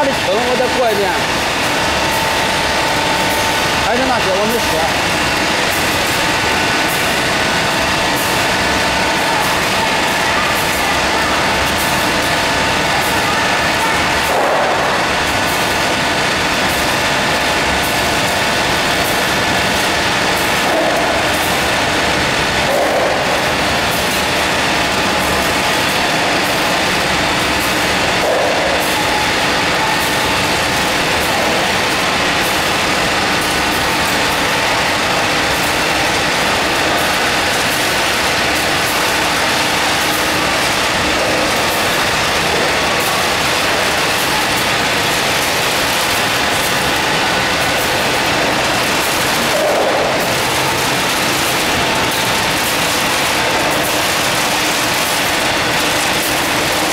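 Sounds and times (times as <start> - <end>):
fryer conveyor mechanical noise: 0.0 - 56.9.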